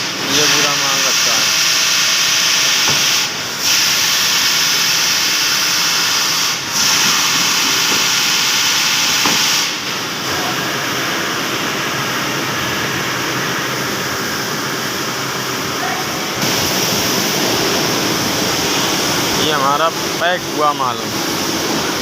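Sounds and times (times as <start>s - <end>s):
factory machinery hissing: 0.0s - 22.0s.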